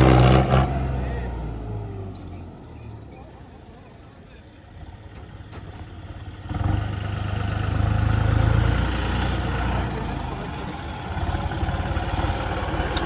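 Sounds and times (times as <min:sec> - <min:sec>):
tractor diesel engine revving: 0:00.0 - 0:04.0, 0:05.8 - 0:13.0.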